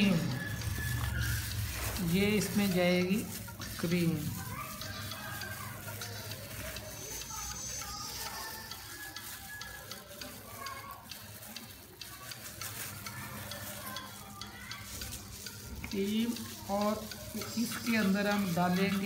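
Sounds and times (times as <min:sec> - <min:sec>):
plastic packet crackling: 0:00.0 - 0:19.0.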